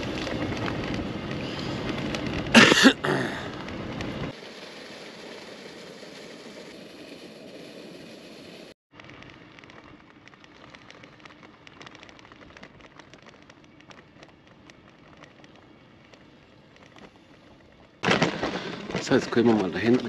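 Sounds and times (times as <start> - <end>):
bicycle tyre rumble: 0.0 - 20.0.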